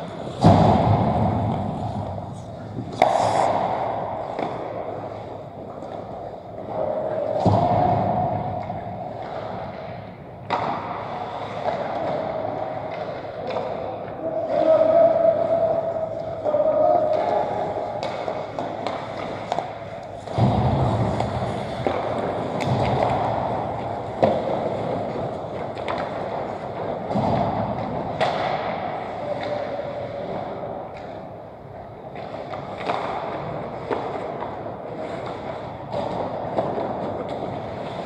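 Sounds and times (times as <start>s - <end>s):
hockey sticks and pucks clacking: 0.0s - 38.0s.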